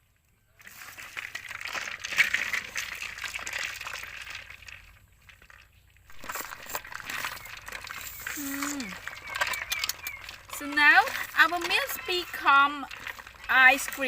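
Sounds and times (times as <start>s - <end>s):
ice and salt crunching: 0.5s - 14.0s.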